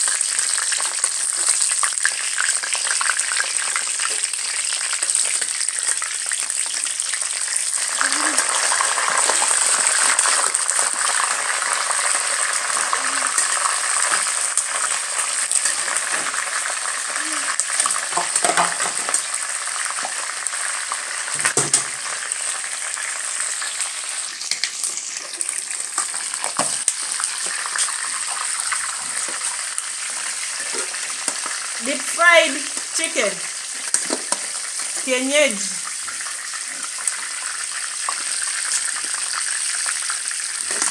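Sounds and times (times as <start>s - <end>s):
chicken deep frying in oil: 0.0s - 40.9s.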